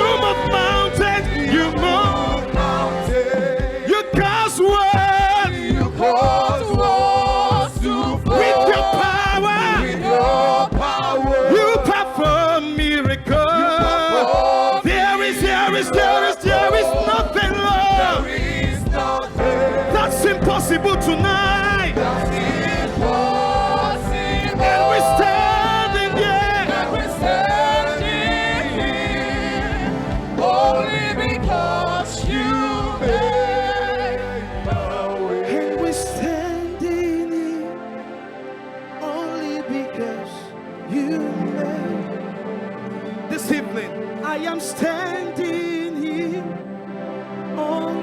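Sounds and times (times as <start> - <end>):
gospel singing with instruments: 0.0 - 48.0.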